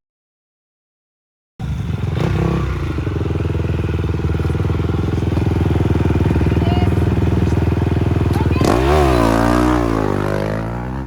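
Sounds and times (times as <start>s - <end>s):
dirt bike engine running: 1.6s - 11.0s.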